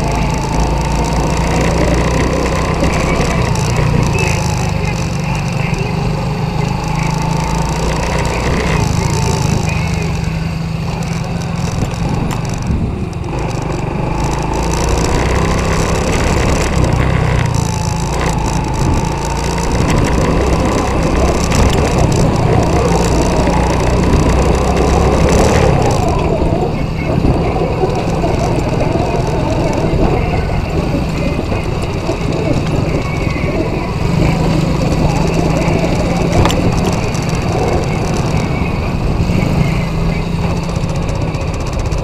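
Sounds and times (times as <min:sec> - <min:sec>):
crackling rattle: 0:00.0 - 0:42.0
quad bike engine running: 0:00.0 - 0:42.0.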